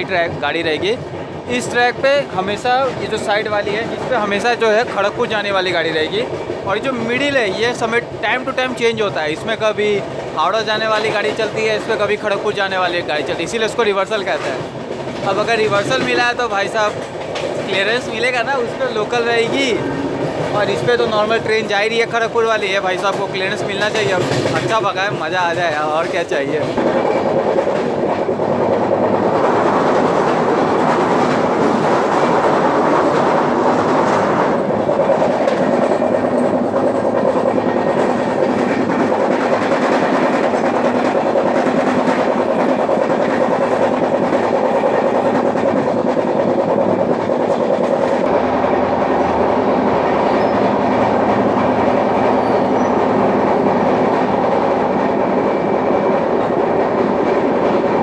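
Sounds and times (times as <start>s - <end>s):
train wheels roaring on rails: 0.0s - 58.0s.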